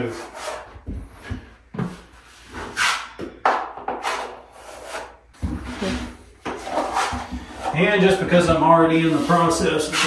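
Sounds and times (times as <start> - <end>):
drywall knife scraping: 0.0 - 0.8, 1.8 - 3.2, 3.8 - 10.0.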